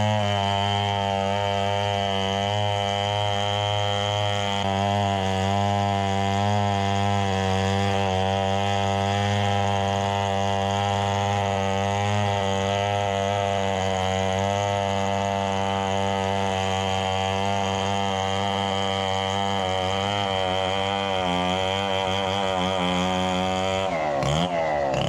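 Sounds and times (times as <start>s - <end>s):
chainsaw running at high revs: 0.0s - 25.0s.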